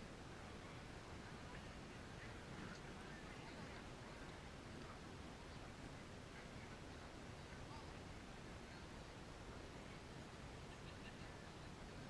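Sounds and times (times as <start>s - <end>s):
microphone hiss: 0.0s - 12.0s.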